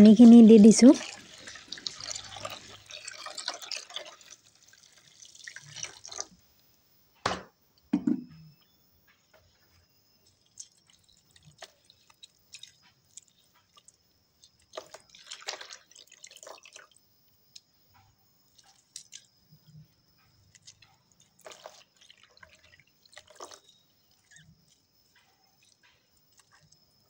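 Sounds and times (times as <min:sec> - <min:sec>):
water drips and splashes: 0:00.0 - 0:06.6, 0:10.2 - 0:27.0.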